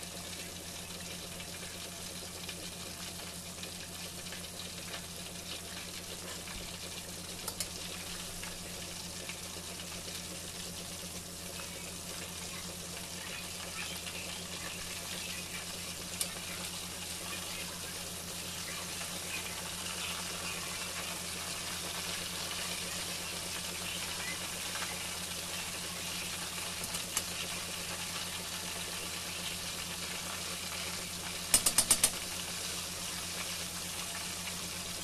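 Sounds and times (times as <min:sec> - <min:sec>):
fish sizzling in hot oil: 0:00.0 - 0:35.0.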